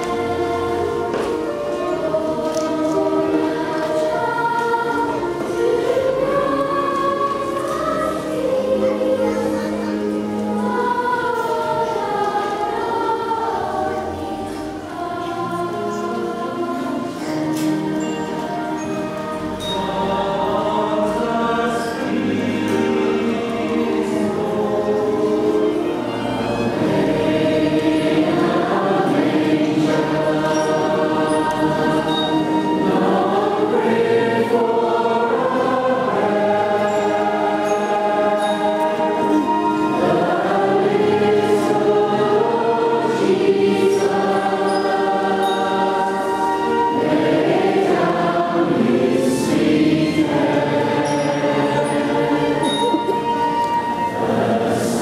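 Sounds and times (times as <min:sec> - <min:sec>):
choir singing in a church: 0:00.0 - 0:55.0.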